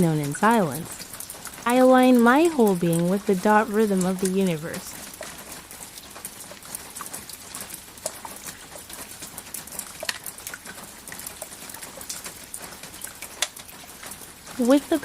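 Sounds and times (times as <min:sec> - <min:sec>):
raindrops tapping a surface: 0:00.0 - 0:15.0
steady rain hiss: 0:00.0 - 0:15.0.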